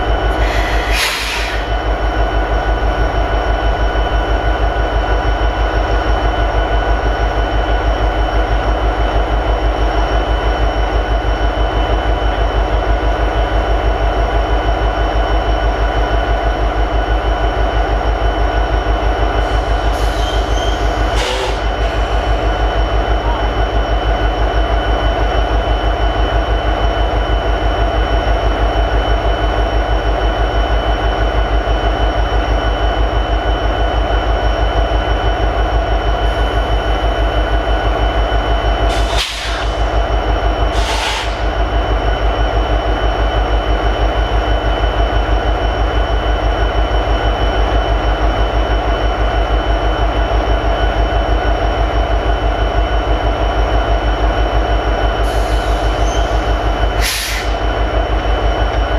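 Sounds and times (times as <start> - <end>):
diesel locomotive idling: 0.0 - 58.9.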